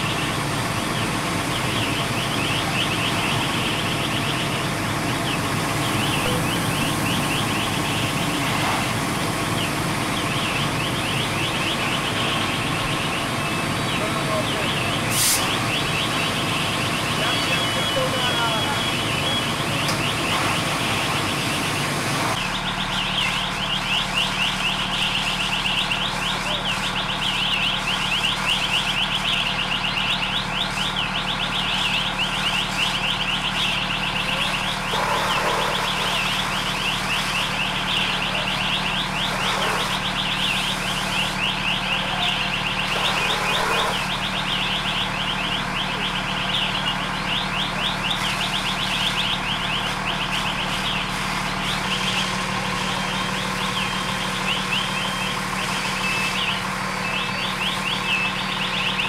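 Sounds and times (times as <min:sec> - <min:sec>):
electronic alarm warbling: 0:00.0 - 0:59.0
fire engine motor droning: 0:00.0 - 0:59.0.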